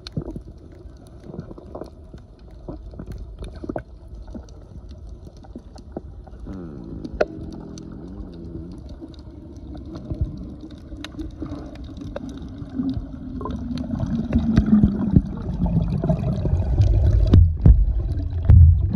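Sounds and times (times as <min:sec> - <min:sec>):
low underwater rumble: 0:00.0 - 0:18.9.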